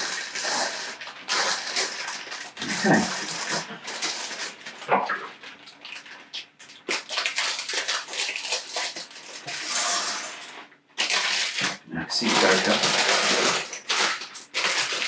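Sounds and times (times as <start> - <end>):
plastic bags crinkling: 0.0 - 15.0
scissors cutting plastic: 0.0 - 15.0.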